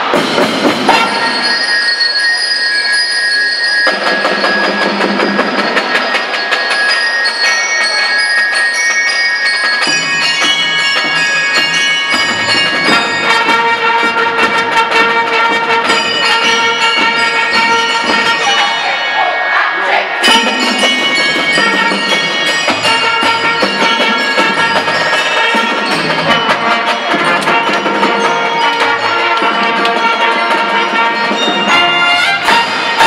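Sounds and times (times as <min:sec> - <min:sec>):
marching band playing: 0:00.0 - 0:02.0, 0:03.9 - 0:33.0.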